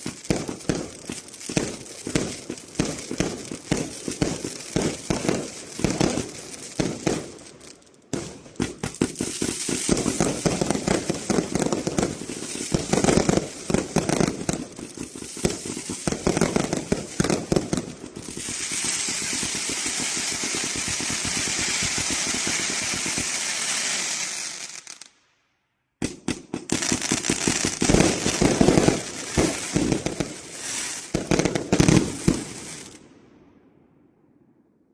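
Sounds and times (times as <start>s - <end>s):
firework volleys: 0.0s - 25.2s, 26.0s - 33.0s
hissing crackle of fireworks: 0.0s - 25.3s, 26.0s - 33.2s.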